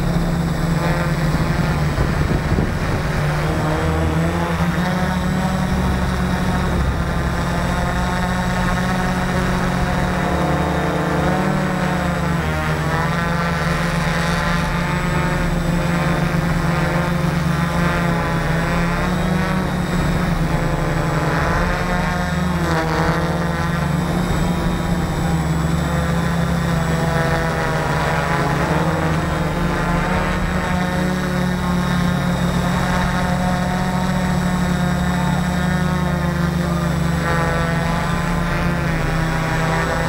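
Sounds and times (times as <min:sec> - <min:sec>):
drone motors whirring: 0:00.0 - 0:40.0
steady low hum: 0:00.0 - 0:40.0.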